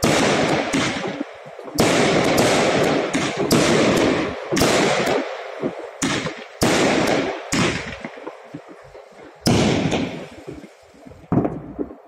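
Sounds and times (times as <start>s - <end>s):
fireworks bangs: 0.0s - 12.0s
fireworks crackling hiss: 0.0s - 12.0s.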